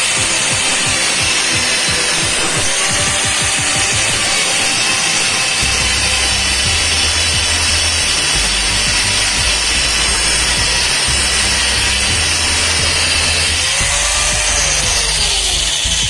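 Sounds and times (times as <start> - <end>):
angle grinder cutting steel pipe: 0.0 - 16.0
background music with bass line: 0.0 - 16.0.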